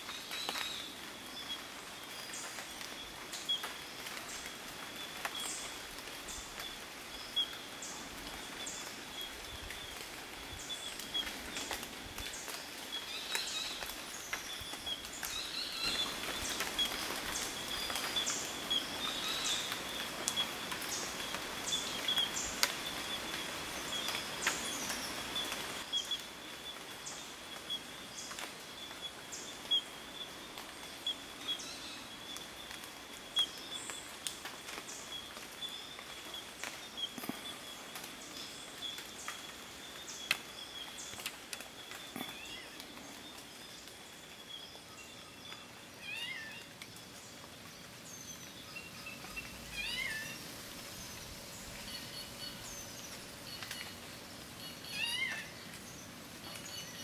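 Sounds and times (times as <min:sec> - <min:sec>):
soft hiss: 0:00.0 - 0:57.0.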